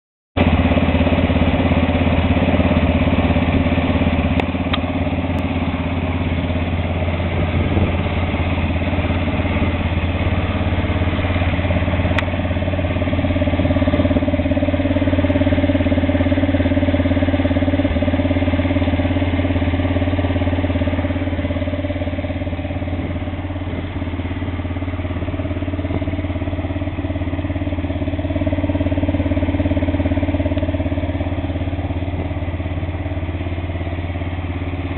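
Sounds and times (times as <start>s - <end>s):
atv engine idling: 0.4s - 34.9s.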